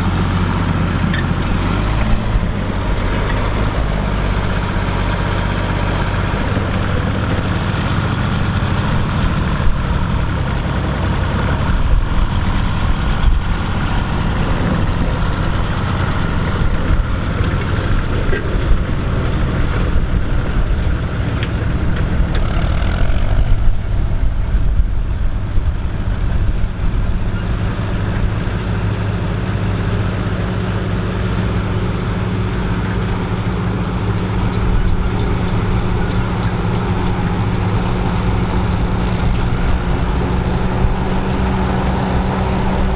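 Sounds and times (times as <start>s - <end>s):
tractor engine running steadily: 0.0s - 42.9s.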